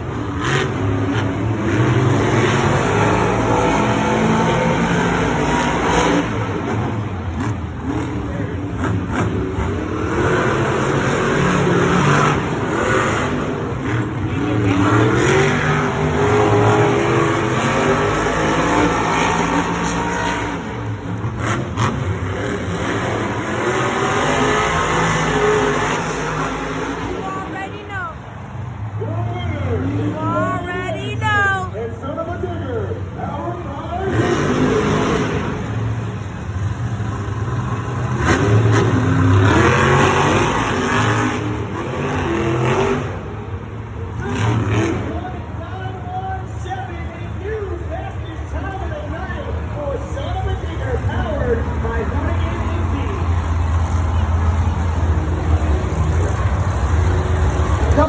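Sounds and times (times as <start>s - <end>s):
monster truck engines revving: 0.0s - 58.0s.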